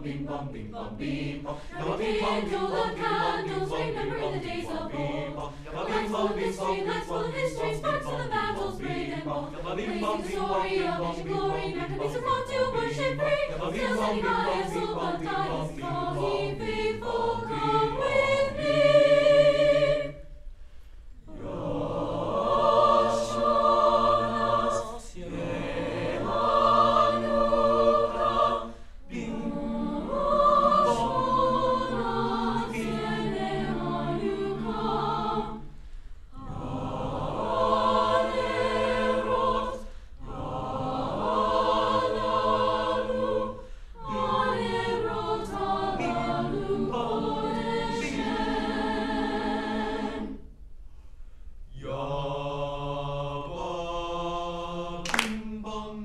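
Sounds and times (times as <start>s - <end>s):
choir singing held chords: 0.0s - 20.6s, 21.2s - 50.6s, 51.7s - 56.0s.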